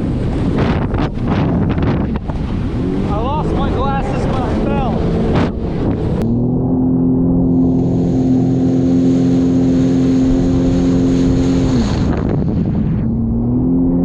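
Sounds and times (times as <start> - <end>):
jet ski engine running: 0.0 - 14.0
water and wind rushing: 0.0 - 14.0.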